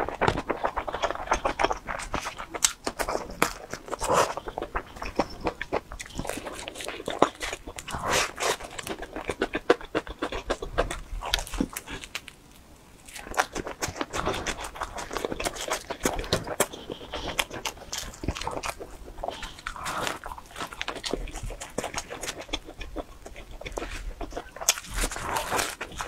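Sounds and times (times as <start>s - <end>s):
close-miked chewing: 0.0s - 12.4s, 13.0s - 26.0s.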